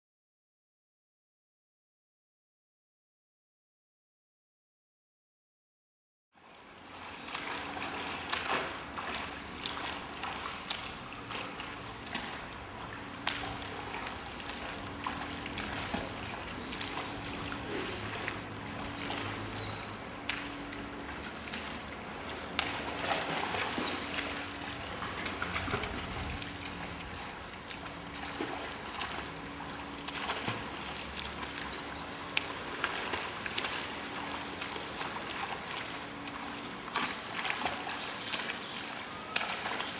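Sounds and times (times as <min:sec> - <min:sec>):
water splashing and sloshing: 0:06.4 - 0:39.9.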